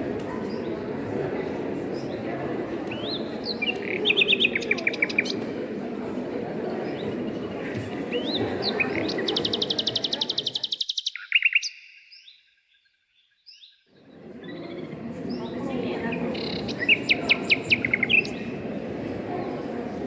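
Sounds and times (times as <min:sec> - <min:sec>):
low background murmur: 0:00.0 - 0:10.8, 0:13.9 - 0:20.0
songbirds chirping: 0:00.0 - 0:20.0.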